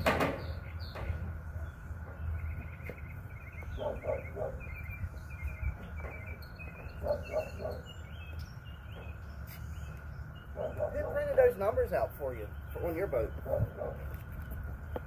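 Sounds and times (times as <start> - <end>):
small birds chirping: 0.0 - 15.0
steady low rumble: 0.5 - 15.0.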